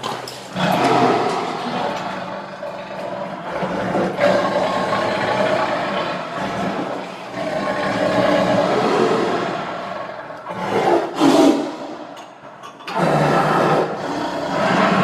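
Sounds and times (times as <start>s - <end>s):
tiger growling and roaring: 0.0s - 12.2s, 12.9s - 15.0s.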